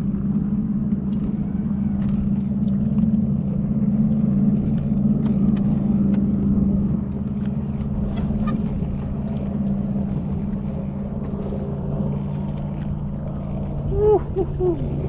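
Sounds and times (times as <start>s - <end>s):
boat motor humming: 0.0s - 15.0s
fishing reel whirring: 0.2s - 3.6s, 4.4s - 6.3s, 7.2s - 15.0s.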